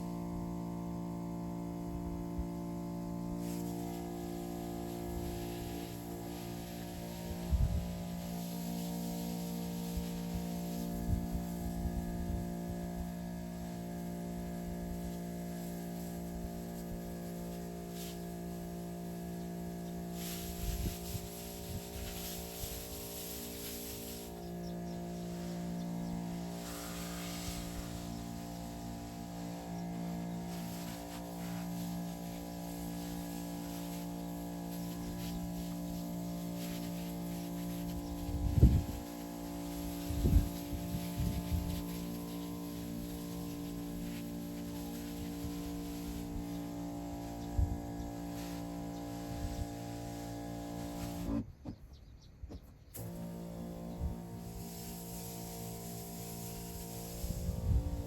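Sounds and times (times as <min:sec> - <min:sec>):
steady electric hum: 0:00.0 - 0:51.4, 0:53.0 - 0:58.0.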